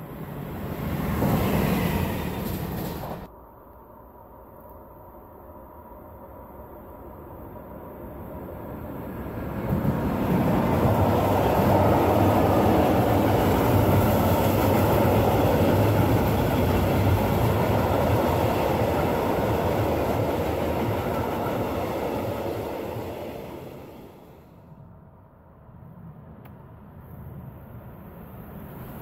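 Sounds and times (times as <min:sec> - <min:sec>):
electric locomotive passing: 0:00.0 - 0:04.4, 0:05.0 - 0:25.2, 0:26.0 - 0:29.0.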